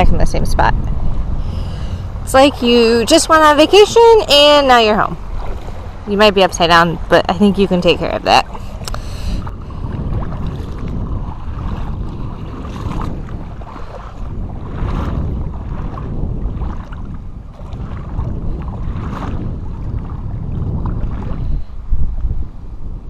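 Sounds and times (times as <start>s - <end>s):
water sloshing from wading: 0.0s - 22.8s
wind buffeting microphone: 0.0s - 23.0s.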